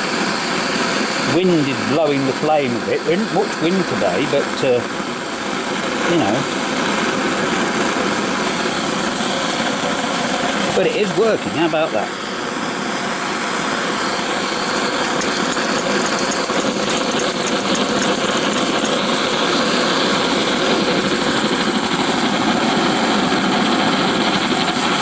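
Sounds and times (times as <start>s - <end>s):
blowlamp flame rushing: 0.0s - 25.0s.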